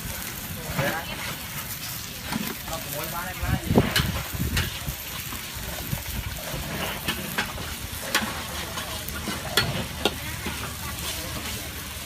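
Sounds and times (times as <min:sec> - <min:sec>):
food sizzling on pan: 0:00.0 - 0:12.0.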